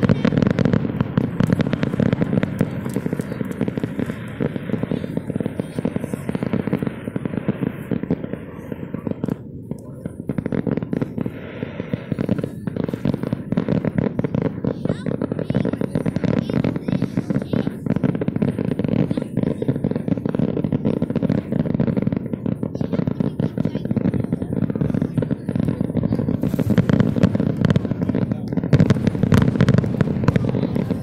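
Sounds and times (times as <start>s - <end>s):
fireworks crackling and popping: 0.0s - 31.0s
fireworks shells bursting: 0.0s - 31.0s.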